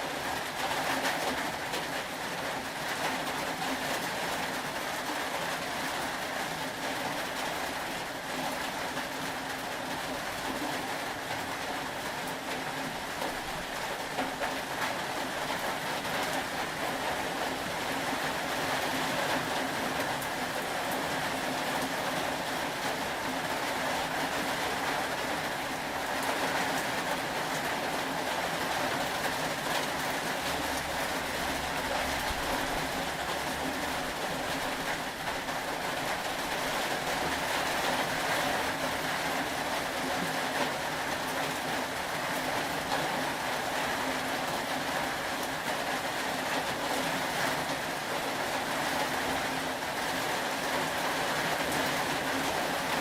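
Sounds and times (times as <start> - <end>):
steady rainfall hiss: 0.0 - 53.0.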